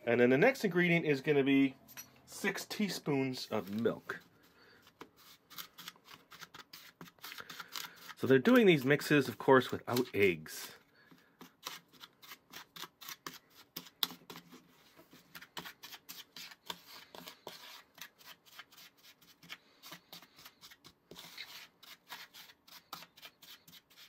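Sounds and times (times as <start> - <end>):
wooden spoon scraping plastic bowl: 3.4 - 24.0.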